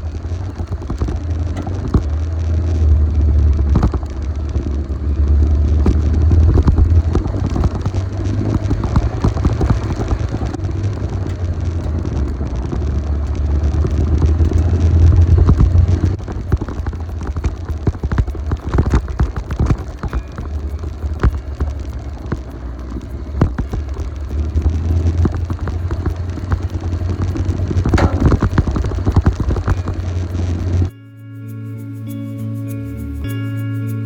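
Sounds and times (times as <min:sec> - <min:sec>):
wind buffeting microphone: 0:00.0 - 0:30.9
motorcycle engine and road rumble: 0:00.0 - 0:31.0.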